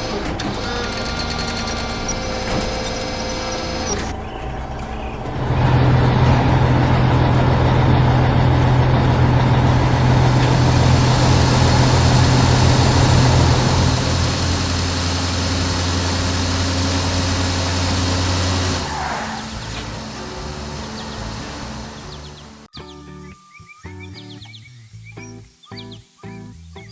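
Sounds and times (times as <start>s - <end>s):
heavy vehicle engine running: 0.0s - 22.7s.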